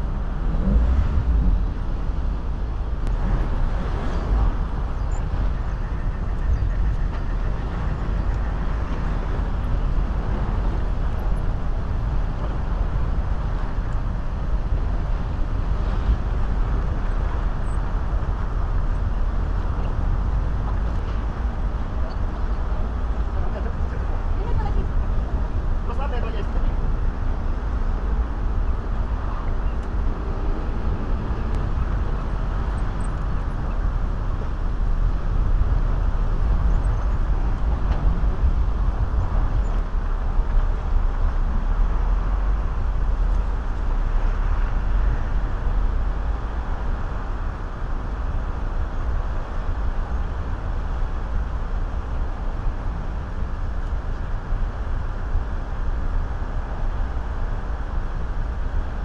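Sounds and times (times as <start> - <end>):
cars passing and pulling away: 0.0 - 59.0.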